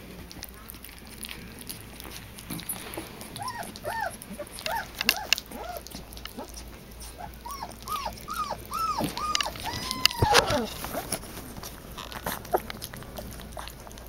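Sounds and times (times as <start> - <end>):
puppy whimpering: 2.5 - 14.0.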